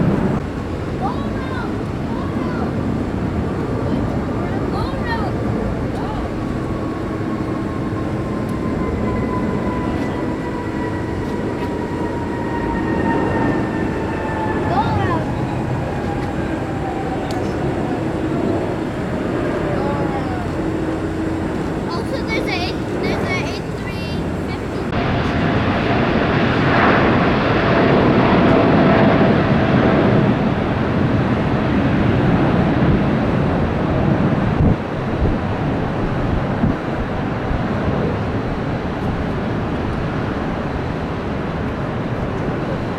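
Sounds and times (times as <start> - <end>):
high engine whine: 0.0 - 42.9
jet engines rushing: 0.0 - 42.9.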